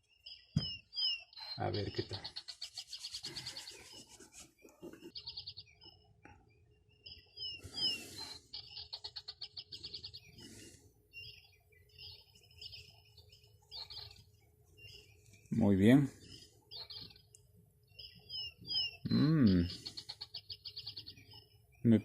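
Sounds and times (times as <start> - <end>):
birds chirping and trilling: 0.0 - 22.0.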